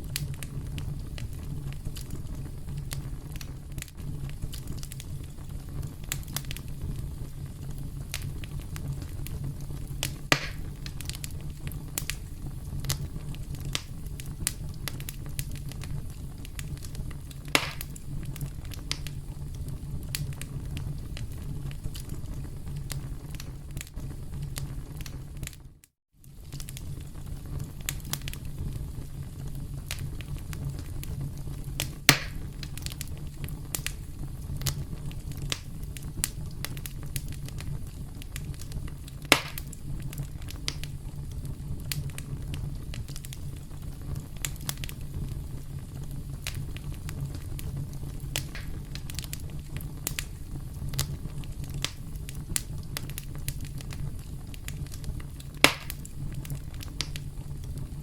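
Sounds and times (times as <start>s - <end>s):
campfire crackling: 0.0s - 58.0s
loud fire pops: 0.0s - 58.0s.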